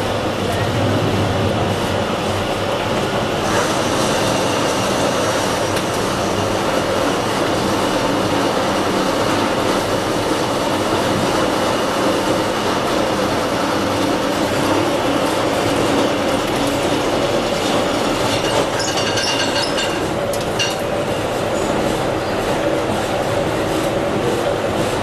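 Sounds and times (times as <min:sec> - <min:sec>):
high machine whine: 0:00.0 - 0:25.0
pipe threading machine running: 0:00.0 - 0:25.0.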